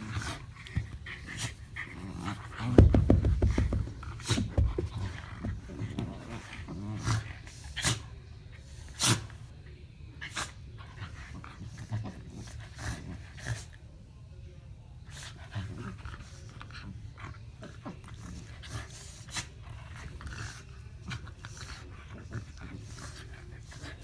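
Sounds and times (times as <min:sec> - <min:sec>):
dogs growling: 0:00.0 - 0:08.0, 0:10.9 - 0:13.8, 0:15.2 - 0:24.0.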